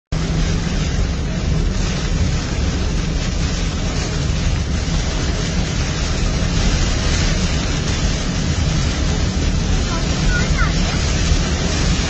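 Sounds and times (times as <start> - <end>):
heavy rain falling: 0.1 - 12.0.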